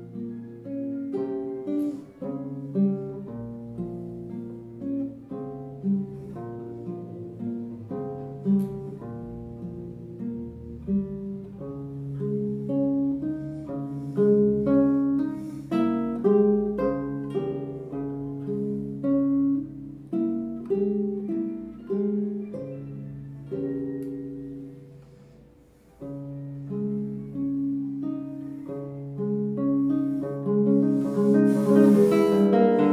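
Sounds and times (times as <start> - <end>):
fingerpicked classical guitar: 0.0 - 32.9.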